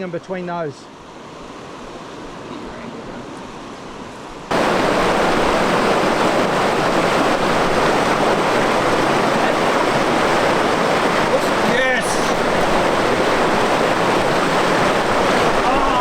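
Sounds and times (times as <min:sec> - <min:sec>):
distant water: 0:00.0 - 0:16.0
rushing river water: 0:00.0 - 0:16.0.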